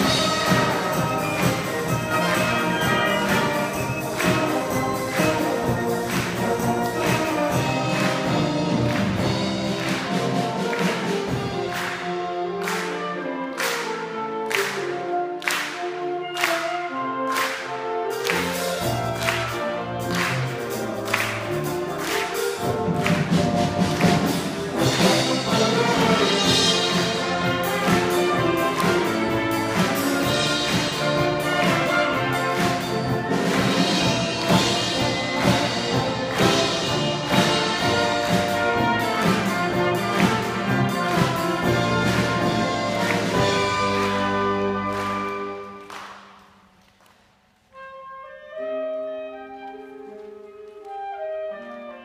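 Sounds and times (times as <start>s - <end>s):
percussion strikes: 0.0s - 12.9s, 17.3s - 46.6s
wind band playing: 0.0s - 52.0s.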